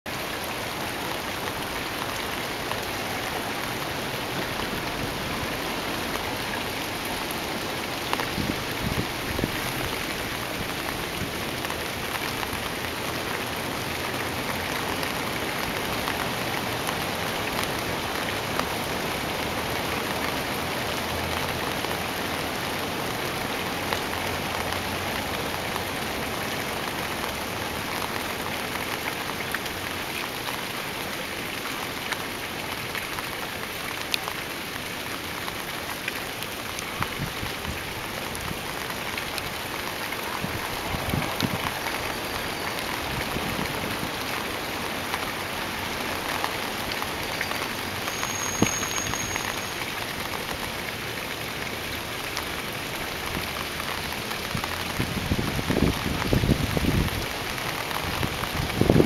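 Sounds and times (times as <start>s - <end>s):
rain falling into puddle: 0.1s - 59.0s.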